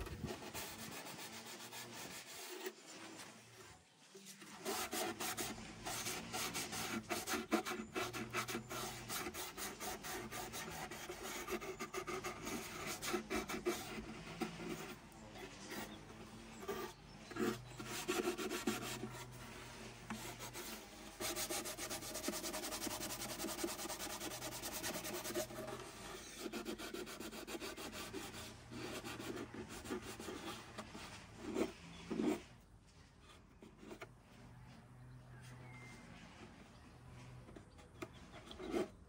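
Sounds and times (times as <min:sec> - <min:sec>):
sanding wood by hand: 0:00.0 - 0:03.6, 0:04.2 - 0:32.5.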